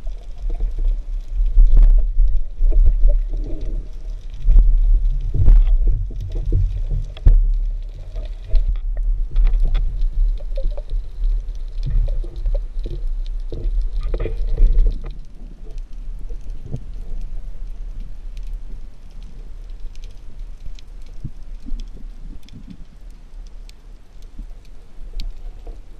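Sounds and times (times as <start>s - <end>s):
muffled underwater rumble: 0.0s - 25.9s.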